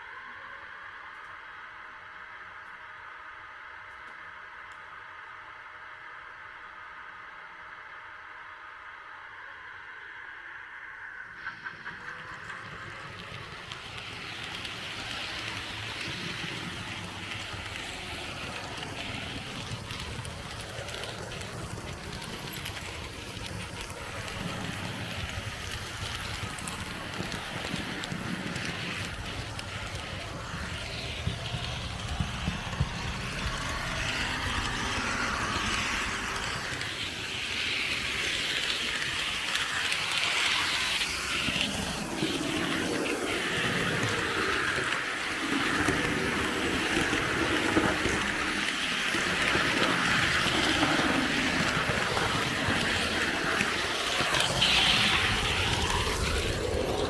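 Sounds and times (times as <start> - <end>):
model train whirring and rattling: 10.4 - 57.0.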